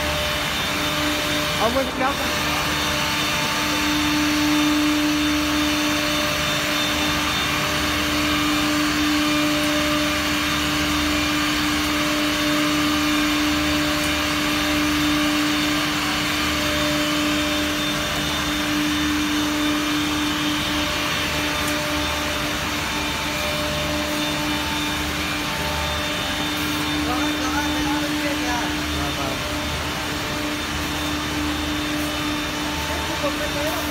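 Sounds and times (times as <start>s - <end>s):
router spindles whining: 0.0s - 33.9s.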